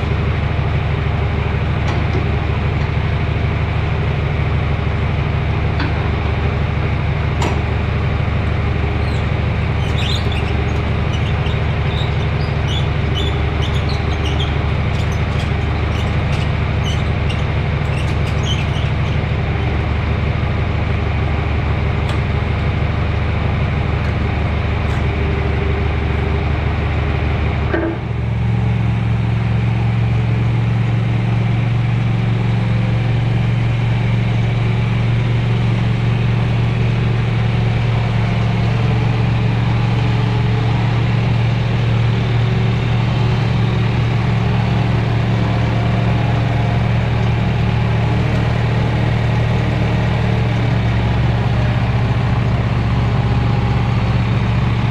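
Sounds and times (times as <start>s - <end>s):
engine humming: 0.0s - 54.9s.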